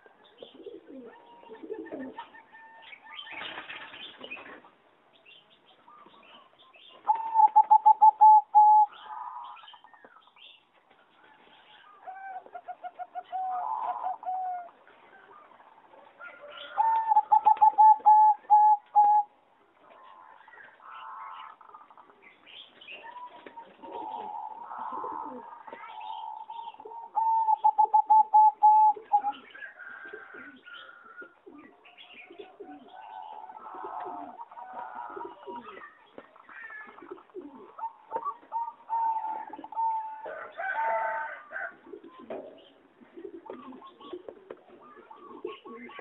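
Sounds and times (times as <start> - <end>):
doves cooing: 0.0 - 2.8, 7.0 - 10.0, 12.0 - 15.5, 16.2 - 22.1, 23.0 - 46.0.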